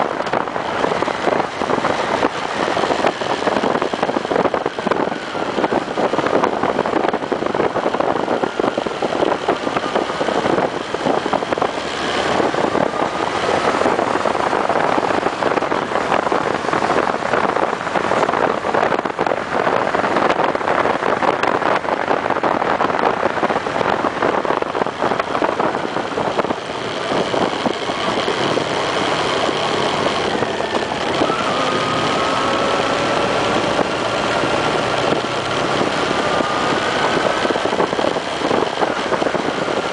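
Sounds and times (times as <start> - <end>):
motorcycle engine running: 0.0 - 22.2, 22.9 - 39.9
wind rushing over microphone: 0.0 - 39.9.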